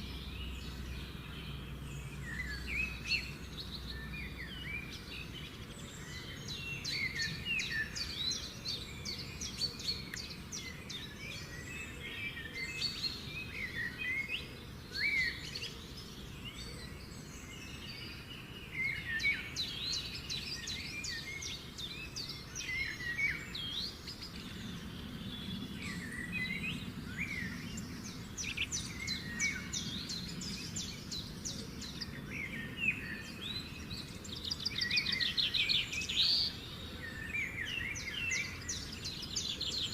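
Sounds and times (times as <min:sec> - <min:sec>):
low background noise: 0:00.0 - 0:39.9
songbirds chirping and singing: 0:00.0 - 0:39.9.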